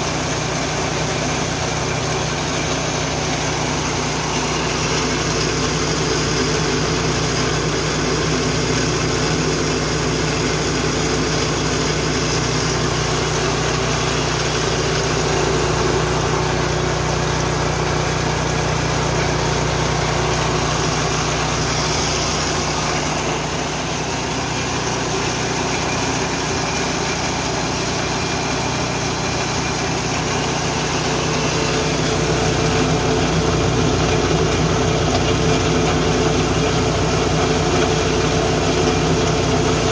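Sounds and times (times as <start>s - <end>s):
mill engine running: 0.0s - 39.9s.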